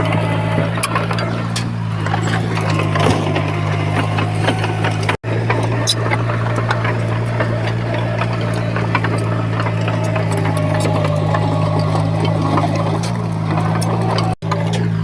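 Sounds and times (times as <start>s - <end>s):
clicks and clanks: 0.0s - 15.0s
diesel engine running: 0.0s - 15.0s.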